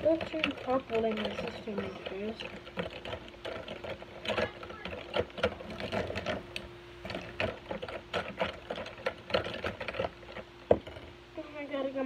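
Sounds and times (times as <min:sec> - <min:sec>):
metal spoon stirring in plastic cup: 0:00.0 - 0:10.8.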